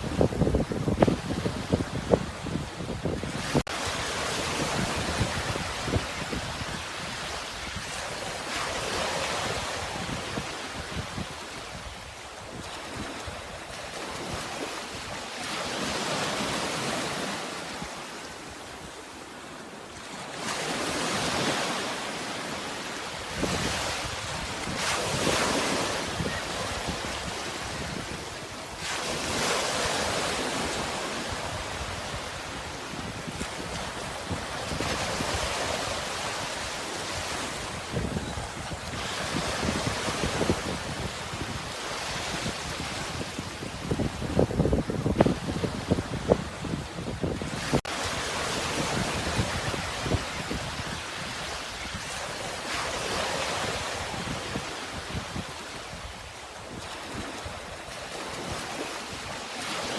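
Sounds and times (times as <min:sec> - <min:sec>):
wind buffeting microphone: 0:00.0 - 0:15.2, 0:23.2 - 0:57.7
sea waves washing onto shore: 0:00.0 - 0:59.9.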